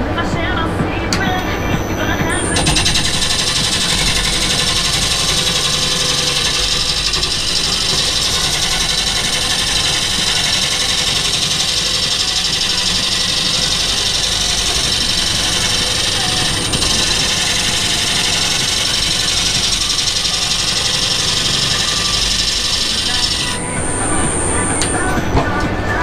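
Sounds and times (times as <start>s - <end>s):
wood lathe running: 1.2s - 25.8s.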